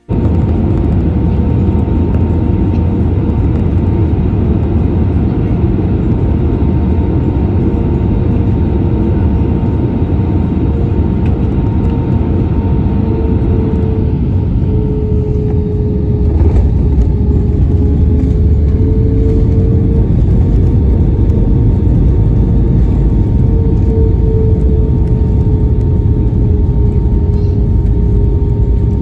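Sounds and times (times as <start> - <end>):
airplane cabin rumble: 0.0 - 29.0
engine hum: 0.0 - 29.0.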